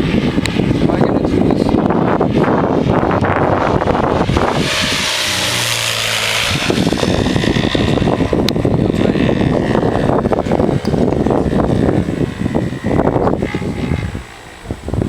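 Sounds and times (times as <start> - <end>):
aircraft engine: 0.0 - 15.0
wind buffeting microphone: 0.0 - 15.0.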